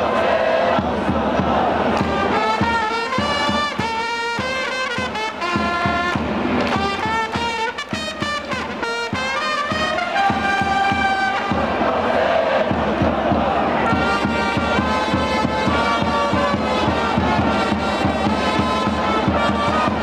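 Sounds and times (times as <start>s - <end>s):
steady beat: 0.0s - 20.0s
trumpets playing melody: 2.0s - 12.4s, 13.8s - 20.0s.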